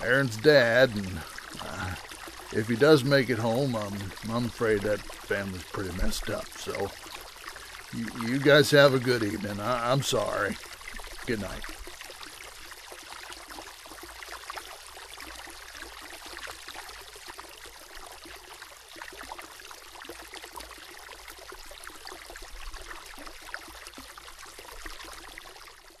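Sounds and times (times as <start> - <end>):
babbling stream water: 0.0 - 26.0.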